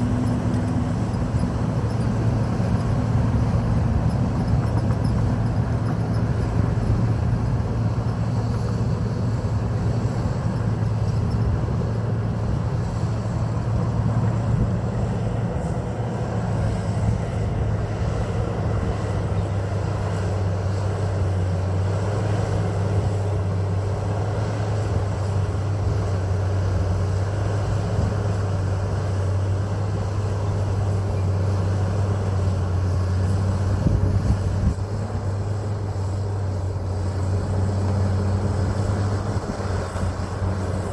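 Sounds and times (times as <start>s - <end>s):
bulldozer diesel engine droning: 0.0s - 40.9s.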